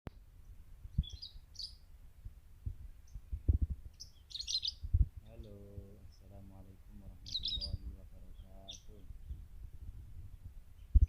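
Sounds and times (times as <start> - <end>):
birds chirping: 0.4 - 1.9, 2.8 - 11.0
dull low bumps: 0.5 - 11.0.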